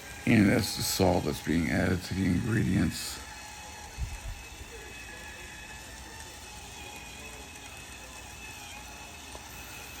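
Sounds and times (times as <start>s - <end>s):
faint hum and hiss: 0.0s - 10.0s.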